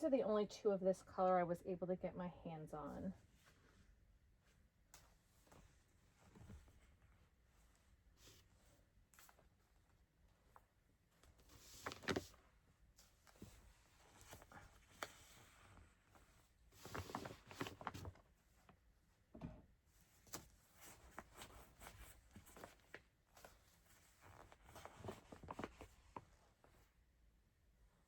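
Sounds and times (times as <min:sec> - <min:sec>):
yarn rustling and soft knocks: 0:03.2 - 0:26.9.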